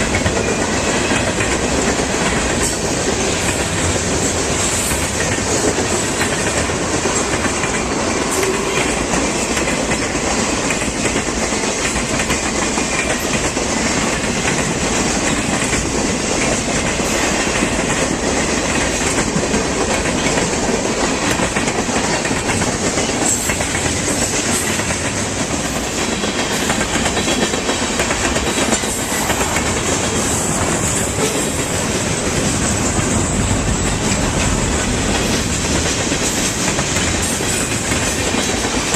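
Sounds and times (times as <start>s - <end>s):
train cars rolling on rails: 0.0s - 38.9s.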